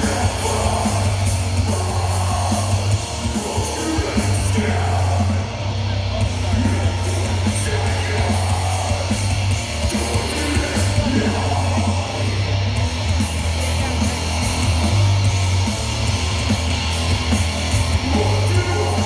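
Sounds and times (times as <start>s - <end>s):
distorted electric guitars: 0.0s - 19.0s
heavy steady bass: 0.0s - 19.0s.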